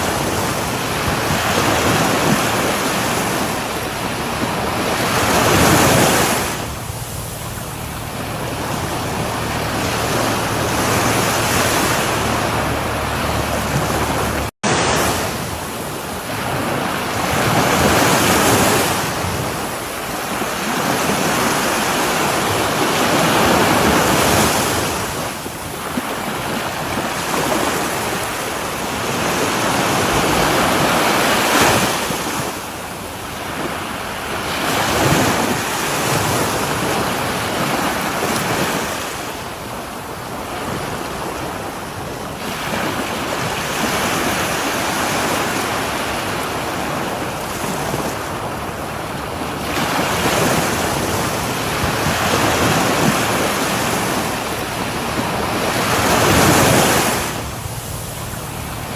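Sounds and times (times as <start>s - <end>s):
ocean waves breaking on shore: 0.0s - 58.9s
wind buffeting microphone: 0.0s - 58.9s.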